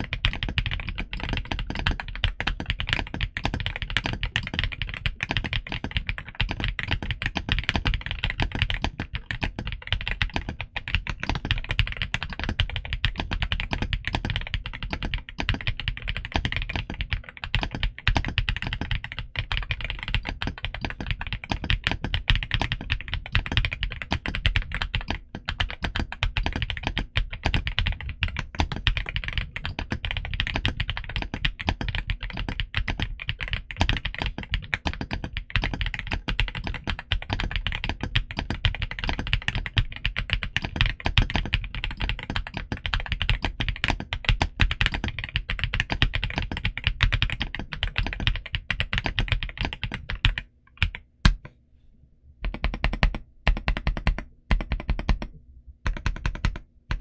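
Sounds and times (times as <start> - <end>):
mechanical keyboard typing: 0.0 - 51.5, 52.4 - 57.0.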